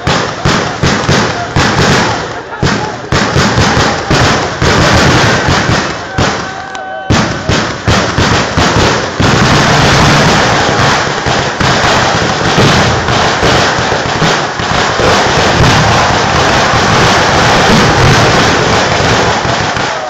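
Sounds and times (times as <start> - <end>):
fireworks exploding: 0.0 - 20.0.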